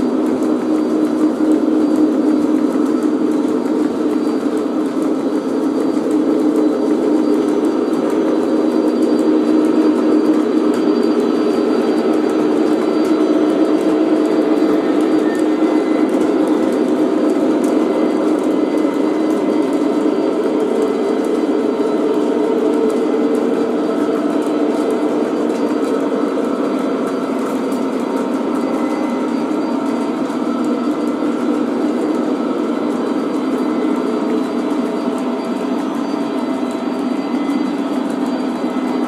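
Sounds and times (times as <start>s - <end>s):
model train wheels rumbling on rails: 0.0s - 39.0s.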